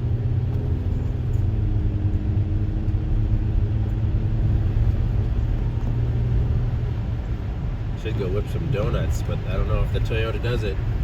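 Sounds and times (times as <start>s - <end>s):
faint engine hum: 0.0s - 11.0s
road noise rumble: 0.0s - 11.0s.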